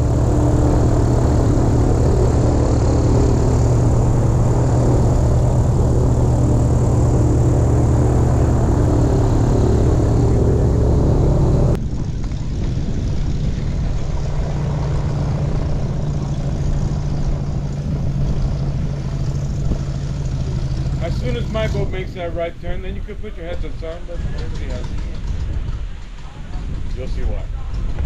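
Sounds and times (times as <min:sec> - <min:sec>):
airboat engine and propeller: 0:00.0 - 0:28.0.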